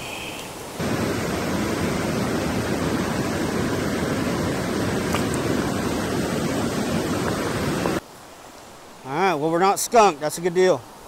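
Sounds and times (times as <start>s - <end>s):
creek water rushing over boulders: 0.0s - 11.0s.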